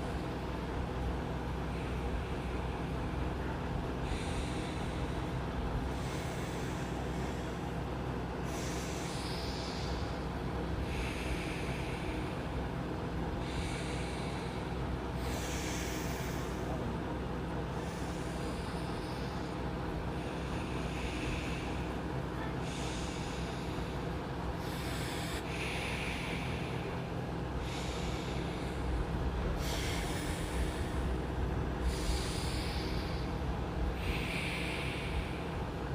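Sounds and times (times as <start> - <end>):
deep breaths through the nose: 0.0 - 35.9
low machine hum: 0.0 - 35.9.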